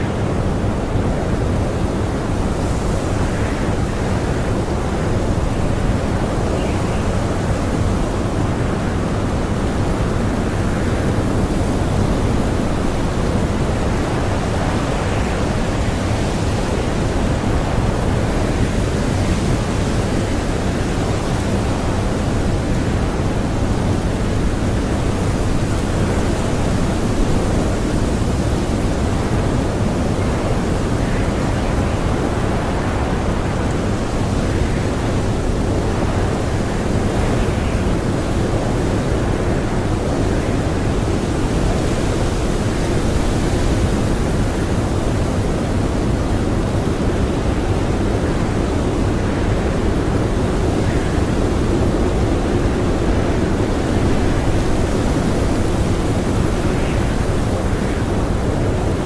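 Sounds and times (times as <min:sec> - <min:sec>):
strong blizzard wind: 0:00.0 - 0:59.0.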